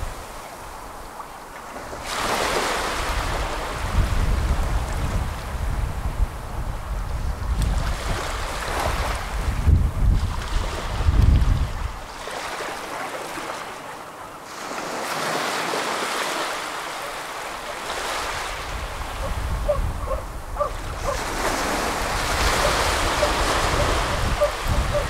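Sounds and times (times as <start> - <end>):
small waves lapping on shore: 0.0 - 25.0
wind gusts on microphone: 1.7 - 13.5, 14.5 - 25.0.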